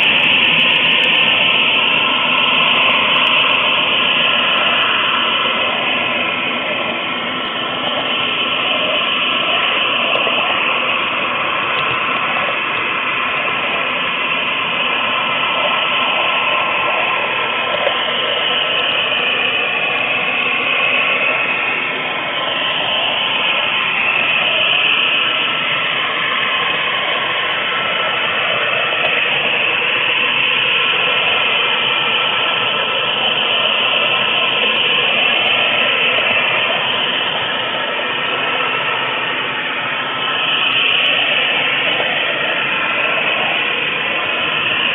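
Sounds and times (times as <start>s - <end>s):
faint motor whine: 0.0s - 44.9s
model train rattling on track: 0.0s - 44.9s.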